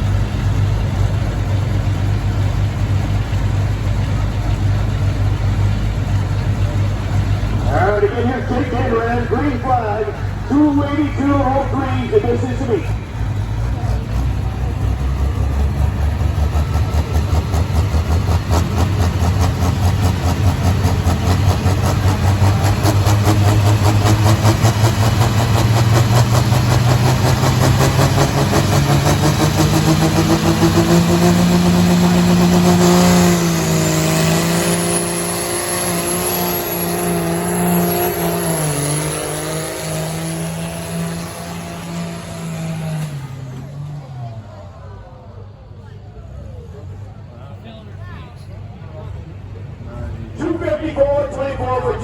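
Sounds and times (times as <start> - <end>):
tractor engine at full throttle: 0.0 - 46.0, 46.6 - 52.0.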